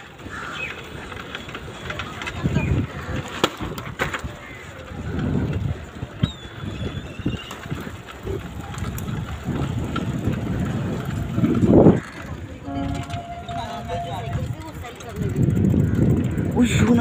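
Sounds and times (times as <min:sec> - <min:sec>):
wind buffeting microphone: 0:01.1 - 0:17.0.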